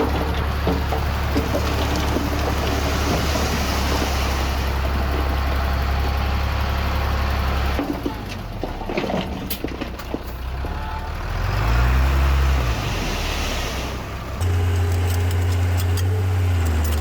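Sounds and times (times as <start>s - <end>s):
diesel earthmoving machinery running: 0.0s - 17.0s.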